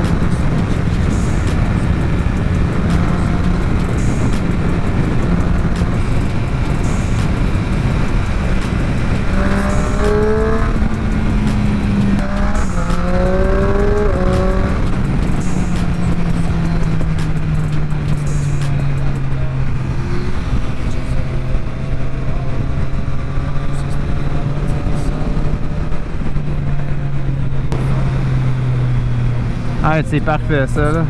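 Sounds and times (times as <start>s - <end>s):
motorcycle engine accelerating: 0.0s - 31.0s
wind rush: 0.0s - 31.0s.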